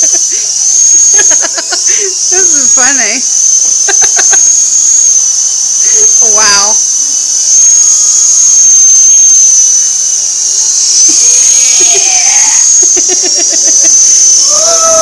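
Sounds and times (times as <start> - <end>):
helicopter whine: 0.0 - 15.0.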